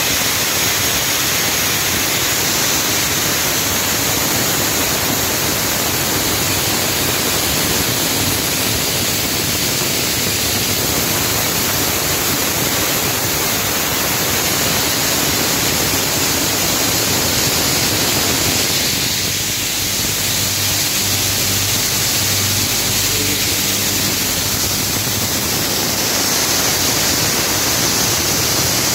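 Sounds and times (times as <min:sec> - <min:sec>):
belt-driven machinery running: 0:00.0 - 0:28.9.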